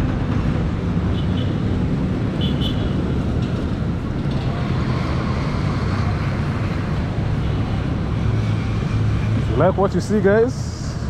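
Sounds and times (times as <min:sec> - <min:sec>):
street noise: 0:00.0 - 0:11.0
vehicle engines rumbling: 0:00.0 - 0:11.0.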